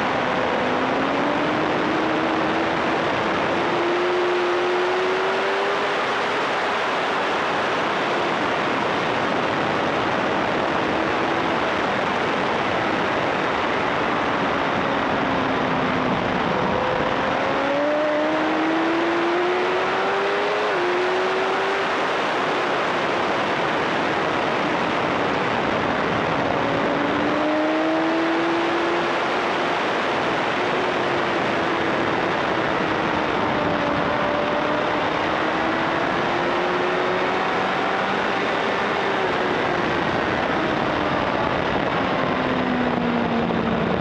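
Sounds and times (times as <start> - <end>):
motorcycle engine running hard: 0.0 - 44.0
wind noise: 0.0 - 44.0.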